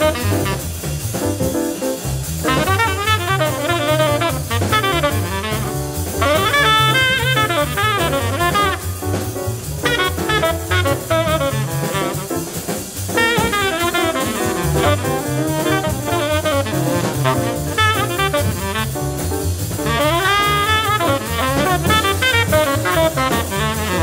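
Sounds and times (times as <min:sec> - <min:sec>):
tenor saxophone melody: 0:00.0 - 0:01.1, 0:02.4 - 0:24.0
drum kit with cymbals: 0:00.0 - 0:24.0
walking double bass: 0:00.0 - 0:24.0.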